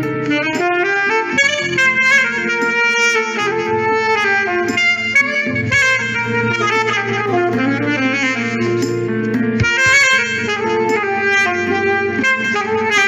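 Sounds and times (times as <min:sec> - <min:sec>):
instrumental backing track: 0:00.0 - 0:13.0
saxophone smooth jazz melody: 0:00.0 - 0:13.0.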